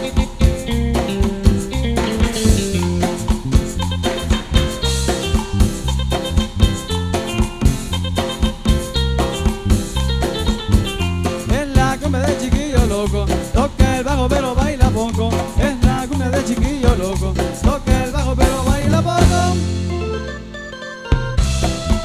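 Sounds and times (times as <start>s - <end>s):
cumbia band playing: 0.0s - 22.0s.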